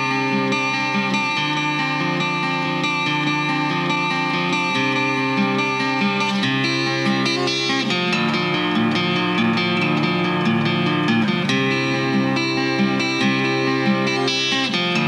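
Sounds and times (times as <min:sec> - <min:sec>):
plucked acoustic guitar: 0:00.0 - 0:15.0.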